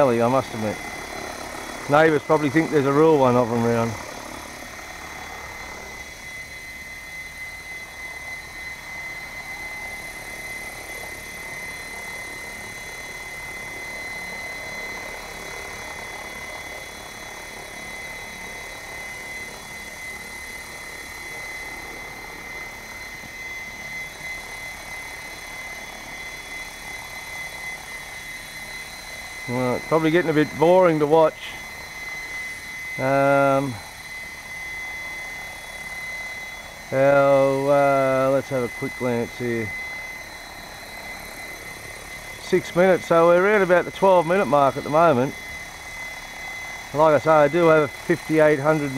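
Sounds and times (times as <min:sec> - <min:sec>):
helicopter rotor whirring: 0:00.0 - 0:48.9
high motor whine: 0:00.0 - 0:48.9.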